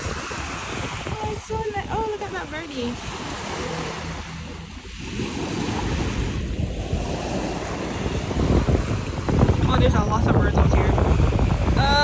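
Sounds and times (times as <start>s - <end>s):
waves washing onto shore: 0.0s - 12.0s
wind on microphone: 0.0s - 12.0s.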